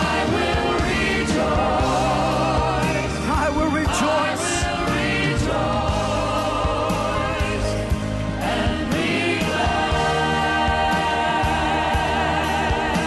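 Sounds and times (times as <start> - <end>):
voices singing held notes: 0.0 - 13.0.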